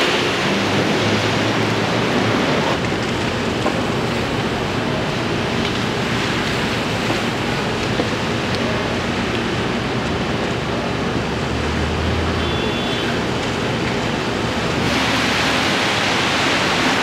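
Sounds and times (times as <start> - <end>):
car tyres swishing on wet pavement: 0.0 - 17.0
heavy rain hissing on street: 0.0 - 17.0.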